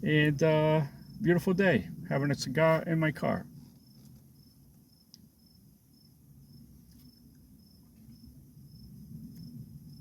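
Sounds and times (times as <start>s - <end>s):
faint insect chirping: 0.0s - 10.0s
low steady background rumble: 0.0s - 10.0s.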